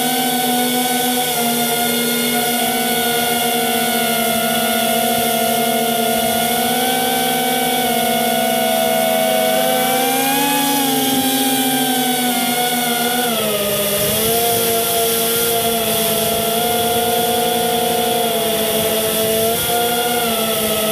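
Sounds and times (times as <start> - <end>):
drone propellers whining: 0.0 - 20.9.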